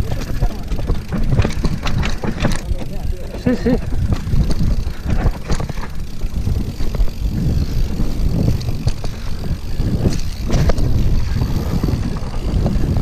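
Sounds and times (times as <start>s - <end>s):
bike clicks and rattles: 0.0s - 13.0s
bike tyre noise on dirt: 0.0s - 13.0s
wind rumbling on microphone: 0.0s - 13.0s.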